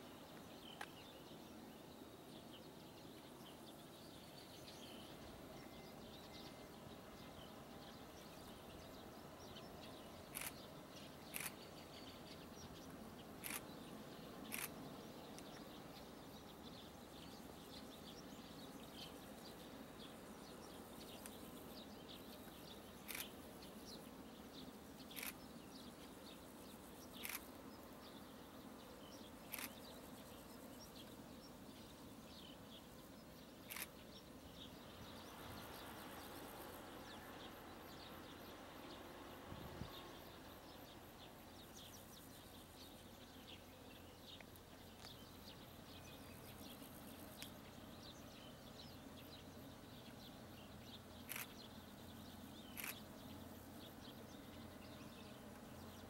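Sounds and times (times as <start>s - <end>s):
faint bird chirps: 0.0s - 56.0s.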